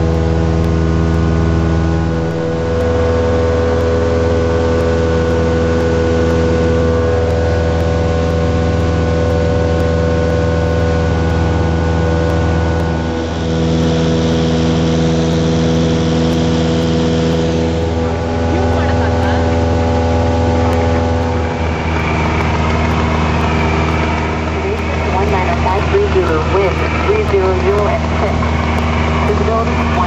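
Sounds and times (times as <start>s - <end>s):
plane engine and propeller droning: 0.0s - 30.0s.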